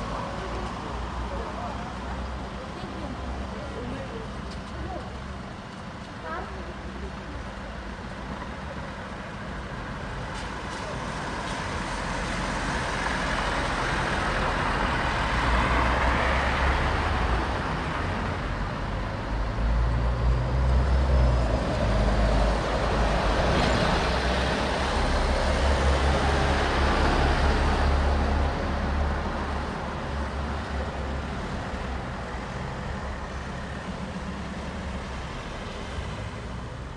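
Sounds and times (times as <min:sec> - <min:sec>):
vehicles passing with engine rumble: 0:00.0 - 0:36.9.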